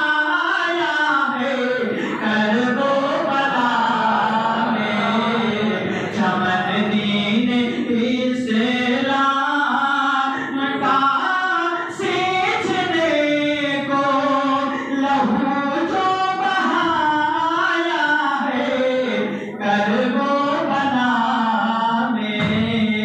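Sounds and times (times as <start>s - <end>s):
man chanting through microphone: 0.0s - 23.0s.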